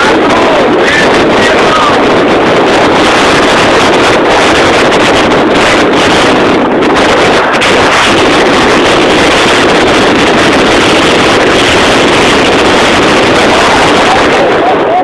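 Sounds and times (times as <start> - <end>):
motor running loudly: 0.0 - 14.6.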